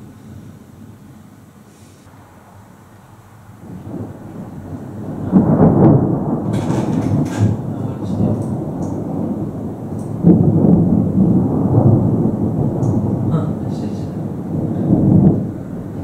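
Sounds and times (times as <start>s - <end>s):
rolling thunder: 2.1s - 16.0s.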